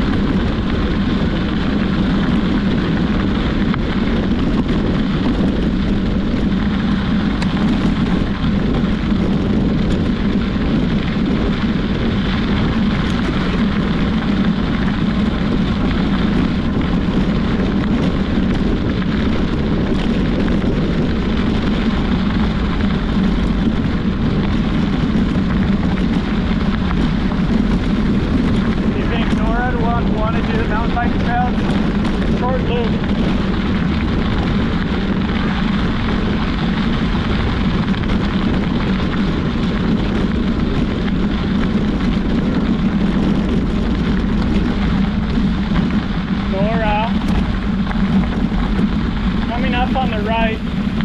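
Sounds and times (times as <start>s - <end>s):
road rumble from bicycle: 0.0s - 51.0s
wind buffeting microphone: 0.0s - 51.0s.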